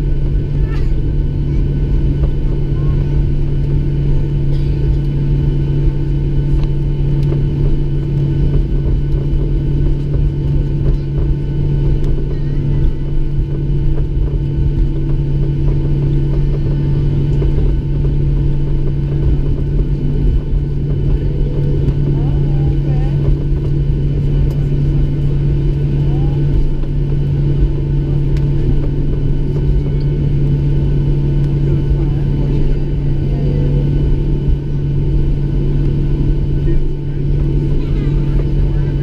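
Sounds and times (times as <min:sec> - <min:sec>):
jet engines low hum and rumble: 0:00.0 - 0:39.0.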